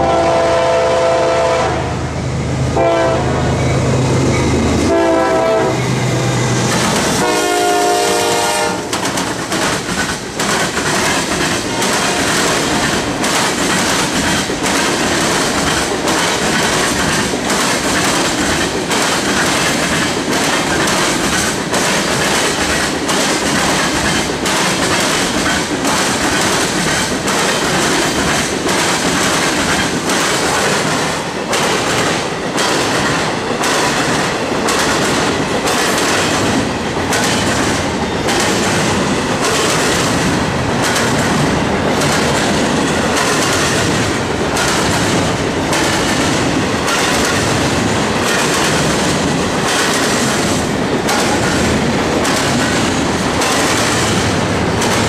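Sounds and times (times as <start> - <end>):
freight train passing: 0.0 - 55.0
wheels clacking on rail joints: 6.6 - 55.0.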